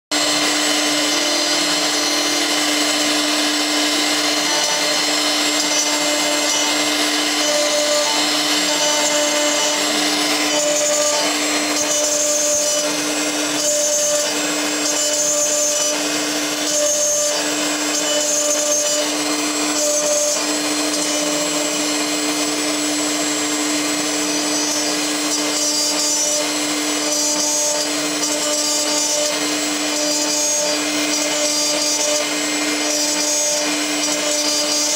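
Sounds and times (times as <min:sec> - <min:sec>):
high cutting tone: 0:00.1 - 0:34.9
milling machine spindle hum: 0:00.1 - 0:34.9.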